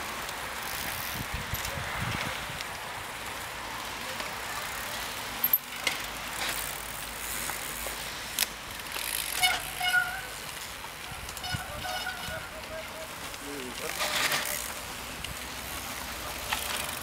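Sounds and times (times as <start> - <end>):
bike clicks and knocks: 0.0 - 2.7, 4.2 - 17.0
bike tyres rushing on dirt: 0.0 - 17.0.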